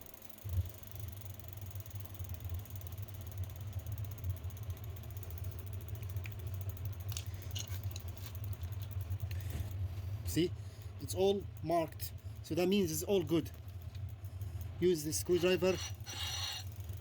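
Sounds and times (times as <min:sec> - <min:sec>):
drill spinning bicycle wheel: 0:00.0 - 0:17.0.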